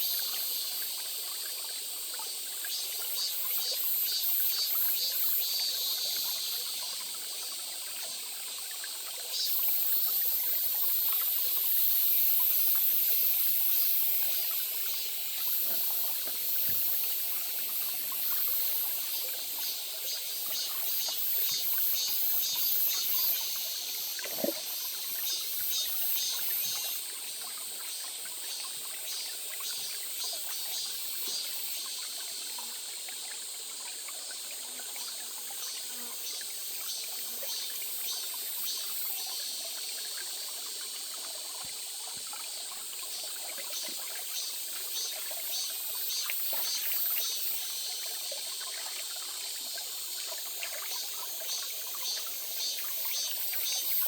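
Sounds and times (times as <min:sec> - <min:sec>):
water trickling in stream: 0:00.0 - 0:54.0.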